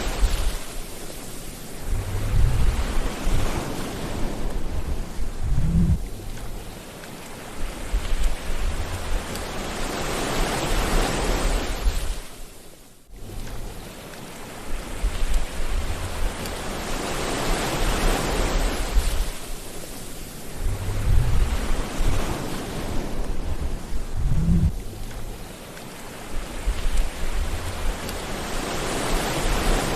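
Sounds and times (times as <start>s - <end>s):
sea waves washing onto shore: 0.0s - 29.9s.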